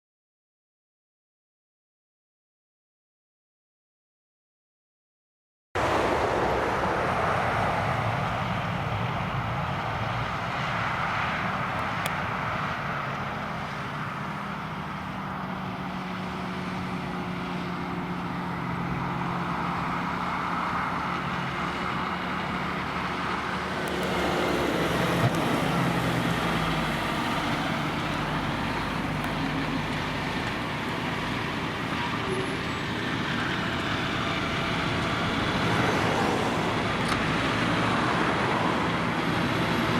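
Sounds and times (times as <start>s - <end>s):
tractor engines droning: 5.8s - 39.9s.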